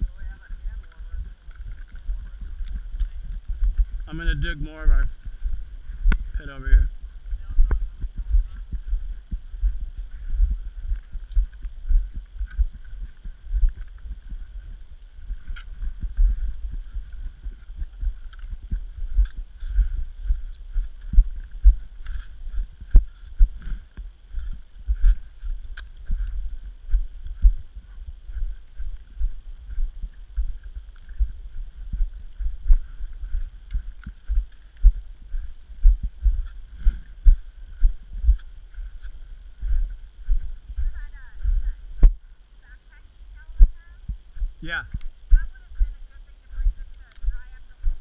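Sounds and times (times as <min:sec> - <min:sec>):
low thumps and rumble: 0:00.0 - 0:42.3.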